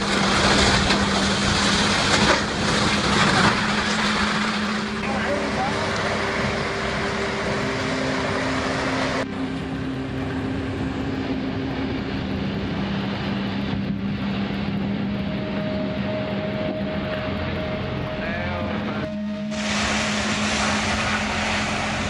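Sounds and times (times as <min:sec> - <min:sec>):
excavator diesel engine running: 0:00.0 - 0:22.0
hydraulic whine: 0:00.0 - 0:22.0.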